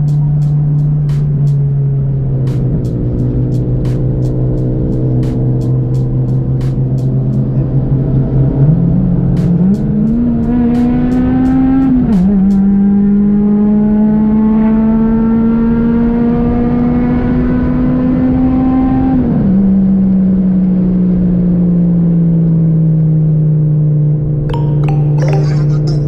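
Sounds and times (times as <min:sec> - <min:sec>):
car engine accelerating through gears: 0:00.0 - 0:23.3.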